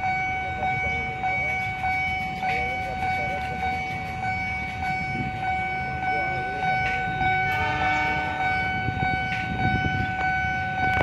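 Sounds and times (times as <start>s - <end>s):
level crossing bell ringing: 0.0s - 11.0s.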